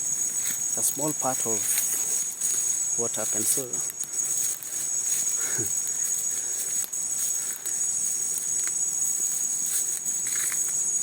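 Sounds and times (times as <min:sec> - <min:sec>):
insects singing: 0:00.0 - 0:11.0.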